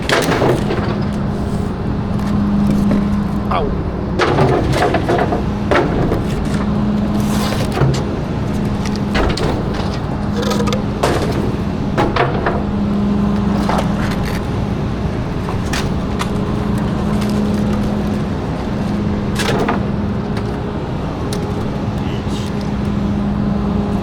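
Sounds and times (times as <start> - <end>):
trash knocking and crushing: 0.0 - 21.7
garbage truck engine running: 0.0 - 24.0.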